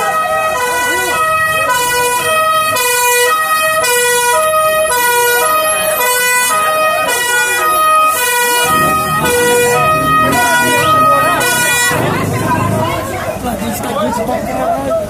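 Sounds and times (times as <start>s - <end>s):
fire engine two-tone siren: 0.0s - 13.4s
people's voices: 0.0s - 15.0s.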